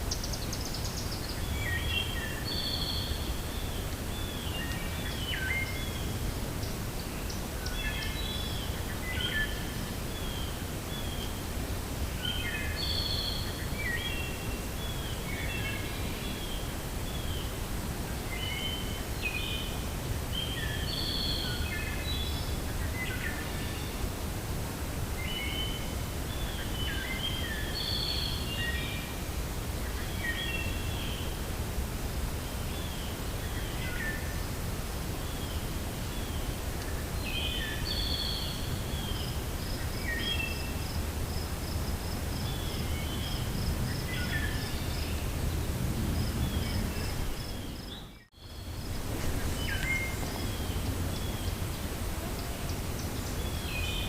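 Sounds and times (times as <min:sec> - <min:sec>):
forest birds chirping and singing: 0:00.0 - 0:24.2, 0:25.1 - 0:31.5, 0:32.4 - 0:54.0
low wind noise: 0:00.0 - 0:54.0.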